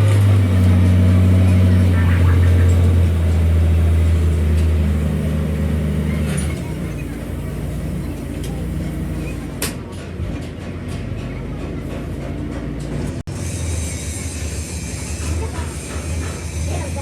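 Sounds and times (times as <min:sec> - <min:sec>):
heavy vehicle engine humming: 0:00.0 - 0:17.0.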